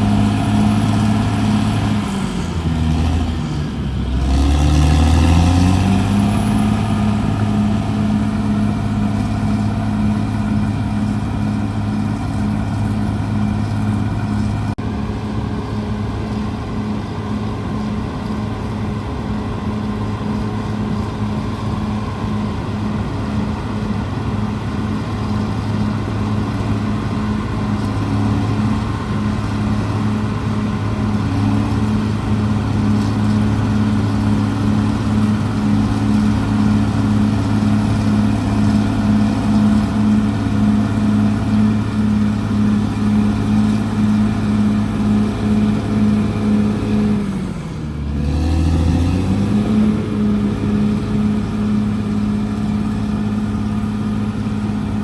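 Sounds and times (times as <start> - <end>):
bulldozer diesel engine throbbing: 0.0 - 55.0.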